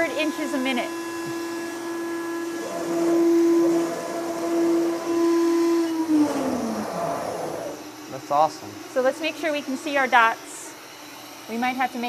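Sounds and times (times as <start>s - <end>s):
spindle whining: 0.0s - 11.0s.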